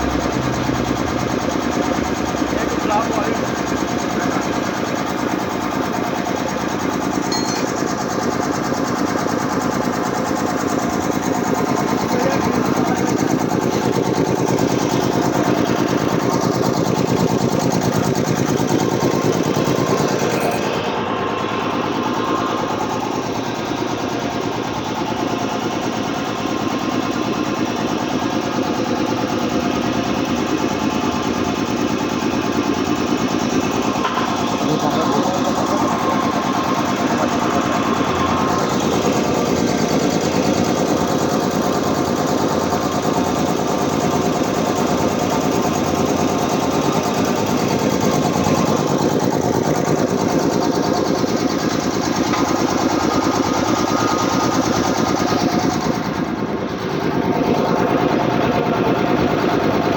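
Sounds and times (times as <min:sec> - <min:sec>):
air compressor chugging: 0:00.0 - 0:59.9.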